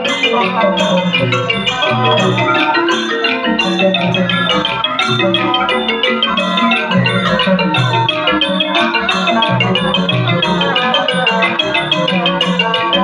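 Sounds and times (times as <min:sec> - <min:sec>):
xylophone runs: 0:00.0 - 0:13.0.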